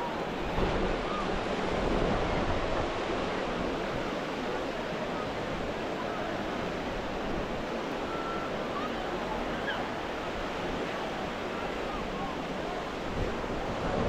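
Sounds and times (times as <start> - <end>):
ocean surf washing ashore: 0.0 - 14.0.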